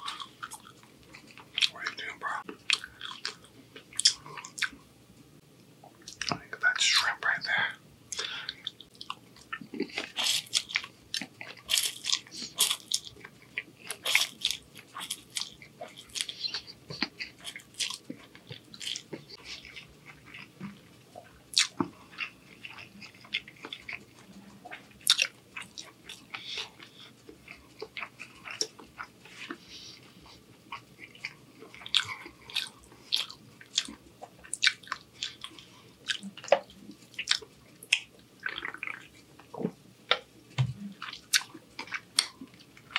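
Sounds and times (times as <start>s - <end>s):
close chewing with wet smacks: 0.0s - 4.8s, 5.7s - 42.9s.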